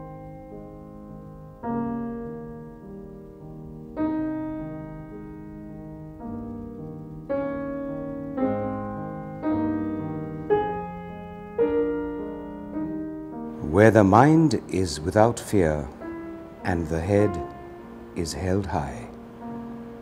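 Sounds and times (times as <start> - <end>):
slow solo piano chords: 0.0 - 20.0.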